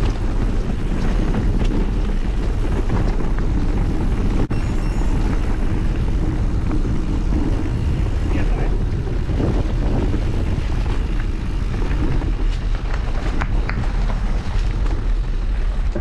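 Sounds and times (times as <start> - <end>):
bike tyres rolling on rocky track: 0.0 - 16.0
wind buffeting microphone: 0.0 - 16.0.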